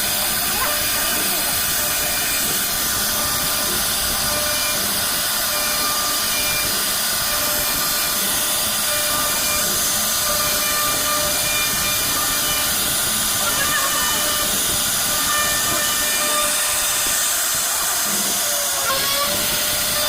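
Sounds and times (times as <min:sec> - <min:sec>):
router spindle carving wood: 0:00.0 - 0:20.0.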